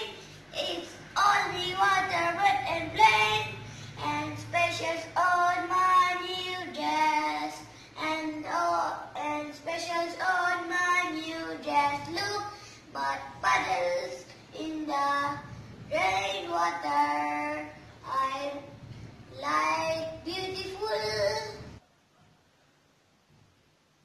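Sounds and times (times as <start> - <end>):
boy singing: 0.0 - 18.7, 19.3 - 21.8.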